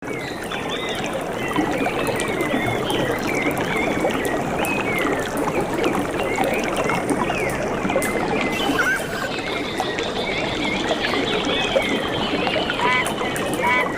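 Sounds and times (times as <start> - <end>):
birds chirping: 0.0 - 13.9
stream water flowing: 0.0 - 13.9.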